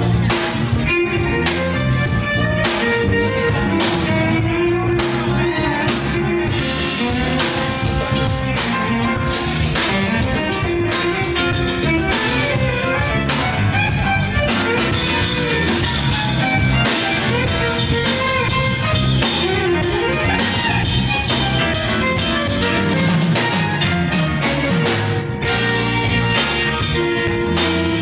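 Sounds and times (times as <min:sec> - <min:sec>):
bass guitar: 0:00.0 - 0:28.0
bowed violin: 0:00.0 - 0:28.0
congas: 0:00.0 - 0:28.0
drum kit: 0:00.0 - 0:28.0
electric guitar: 0:00.0 - 0:28.0.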